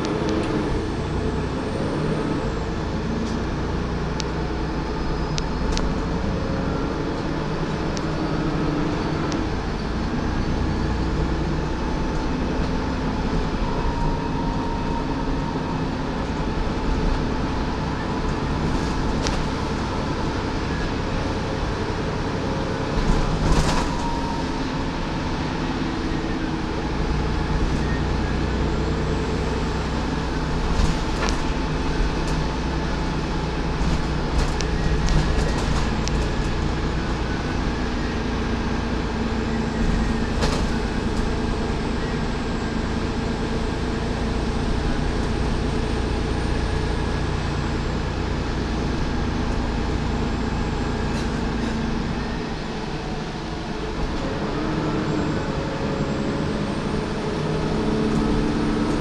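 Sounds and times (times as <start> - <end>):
bus diesel engine: 0.0 - 59.0
road noise: 0.0 - 59.0.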